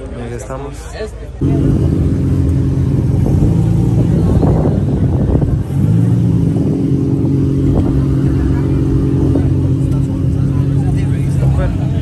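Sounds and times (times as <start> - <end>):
car engine idling: 1.4 - 12.0.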